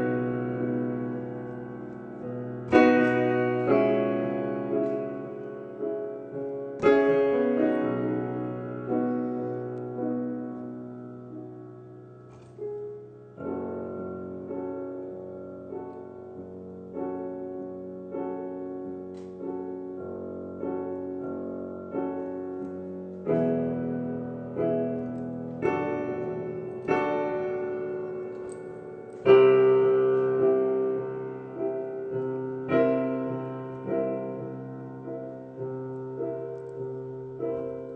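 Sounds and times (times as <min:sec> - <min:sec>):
piano playing slow chords: 0:00.0 - 0:37.9.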